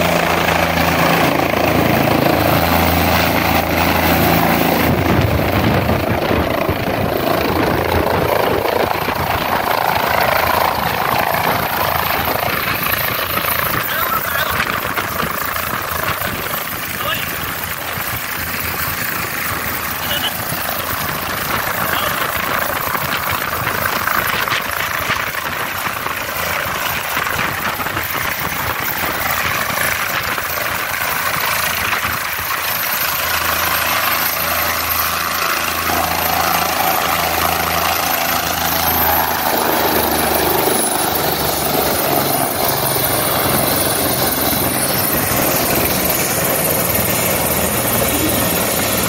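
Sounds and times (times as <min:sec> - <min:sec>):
helicopter engine and rotor drone: 0:00.0 - 0:49.0
rotor blades beating: 0:00.0 - 0:49.0.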